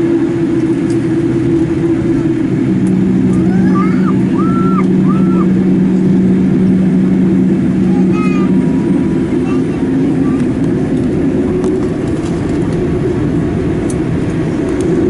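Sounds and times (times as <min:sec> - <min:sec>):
aircraft cabin engine drone: 0:00.0 - 0:15.0.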